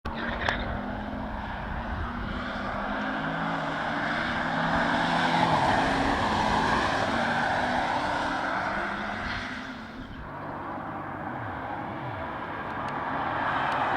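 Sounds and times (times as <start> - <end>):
car driving past: 0.2 - 13.9.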